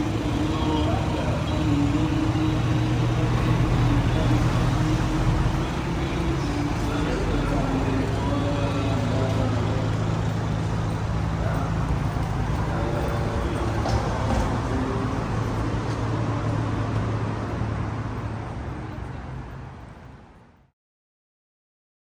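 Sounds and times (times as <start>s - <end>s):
city traffic engine hum: 0.0s - 20.7s.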